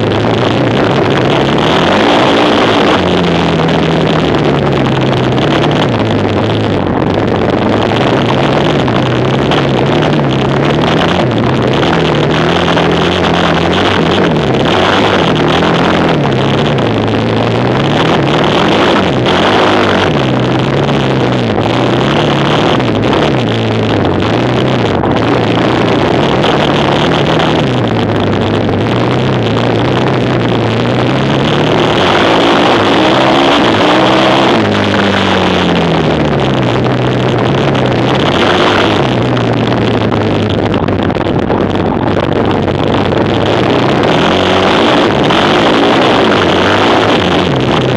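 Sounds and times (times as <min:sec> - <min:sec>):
quad engine revving: 0:00.0 - 0:47.9.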